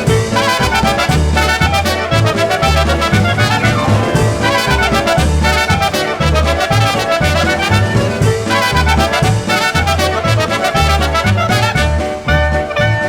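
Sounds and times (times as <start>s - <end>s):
polka band music: 0.0s - 13.0s.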